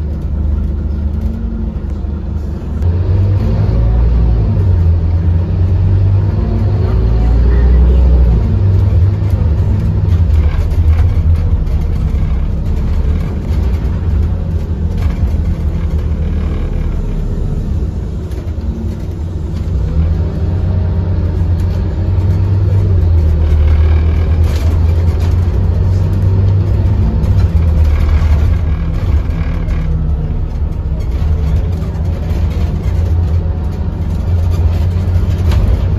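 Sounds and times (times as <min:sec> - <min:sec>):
bus engine drone: 0:00.0 - 0:35.9
road noise: 0:00.0 - 0:35.9.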